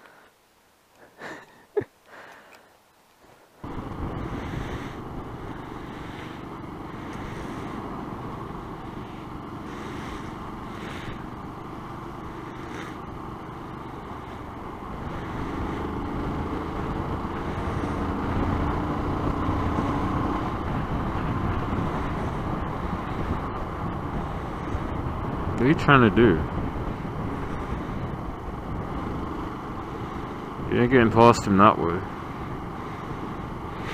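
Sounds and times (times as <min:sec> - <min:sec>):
wind noise on microphone: 0:03.6 - 0:13.0, 0:13.6 - 0:31.4
motorcycle engine running: 0:03.6 - 0:33.9.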